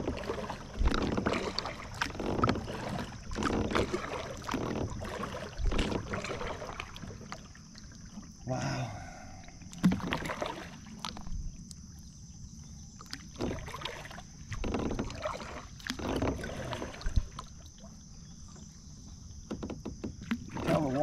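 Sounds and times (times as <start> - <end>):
kayak paddle splashing: 0.0 - 21.0.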